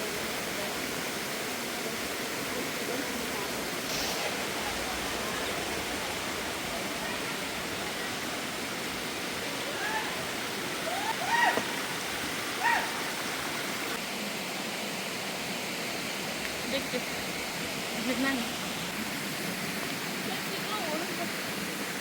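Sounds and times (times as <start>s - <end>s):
rush of flowing water: 0.0s - 22.0s.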